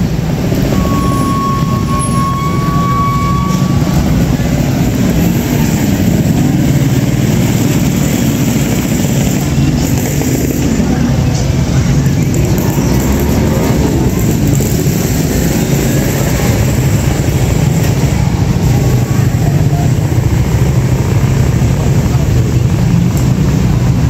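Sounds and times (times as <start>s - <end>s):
drone of vehicle engines: 0.0s - 24.0s
people talking: 0.0s - 24.0s.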